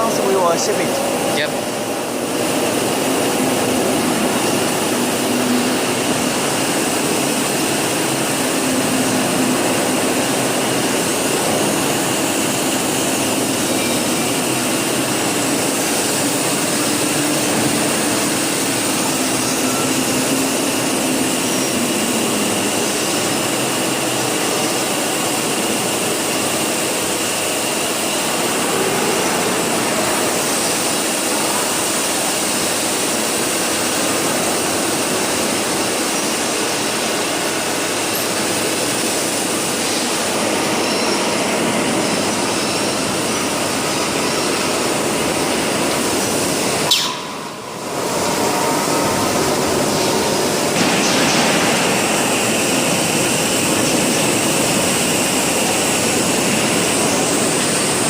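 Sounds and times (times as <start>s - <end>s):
faint high machine whine: 0.0s - 58.0s
machine hiss and hum: 0.0s - 58.0s.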